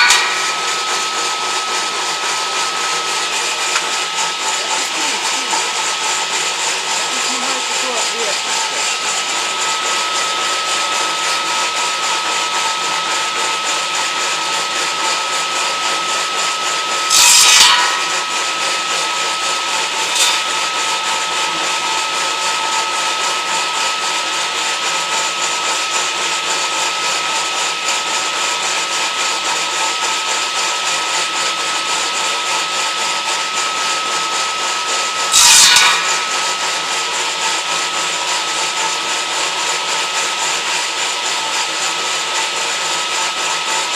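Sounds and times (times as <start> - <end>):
circular saw machine whining: 0.0 - 43.9.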